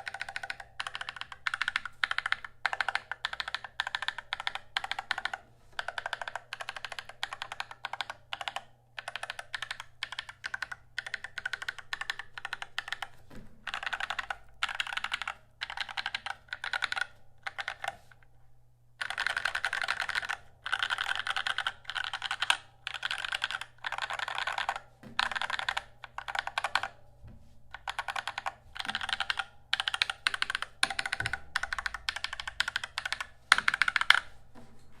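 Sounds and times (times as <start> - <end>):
mechanical keyboard typing: 0.0 - 18.0, 19.0 - 27.0, 27.7 - 34.3.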